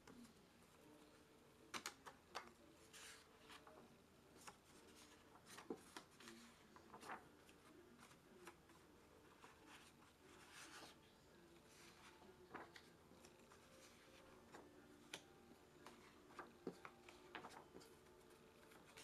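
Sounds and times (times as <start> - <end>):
paper pages rustling and turning: 1.6 - 19.0.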